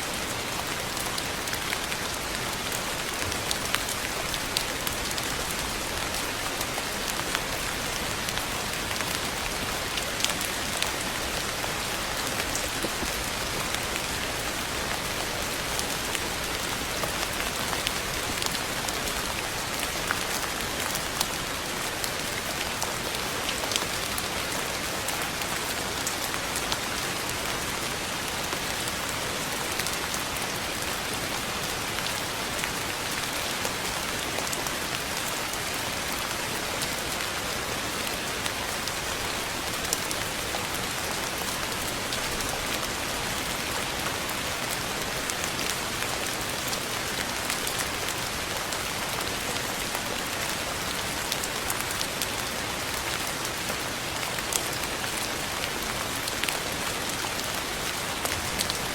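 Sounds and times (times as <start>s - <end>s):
rain on hard surface: 0.0s - 58.9s.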